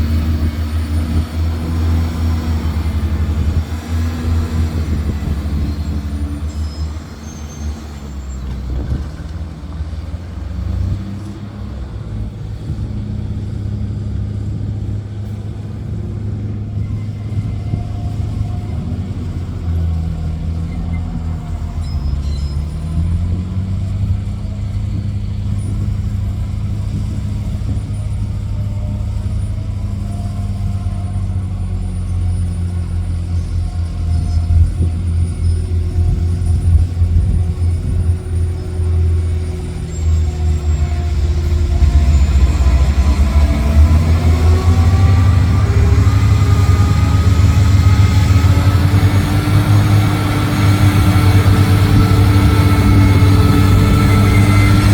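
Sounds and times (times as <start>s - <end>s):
heavy truck engine droning: 0.0s - 54.9s.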